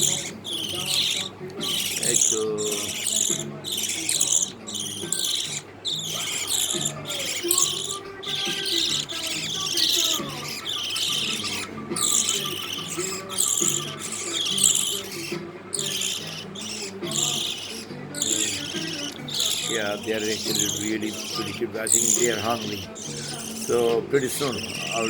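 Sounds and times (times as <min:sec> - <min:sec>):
budgerigar chicks calling: 0:00.0 - 0:25.0.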